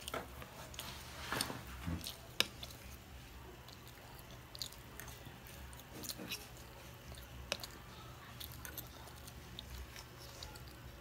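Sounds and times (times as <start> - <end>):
child chewing: 0.0 - 11.0.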